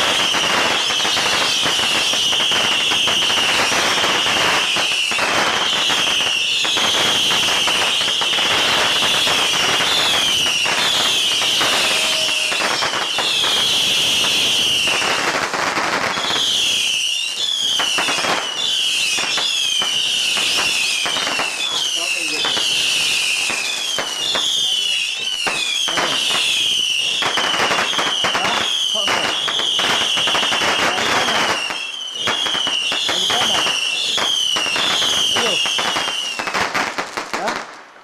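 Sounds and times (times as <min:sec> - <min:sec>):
fireworks crackling and popping: 0:00.0 - 0:38.0
whistling fireworks: 0:00.0 - 0:38.0.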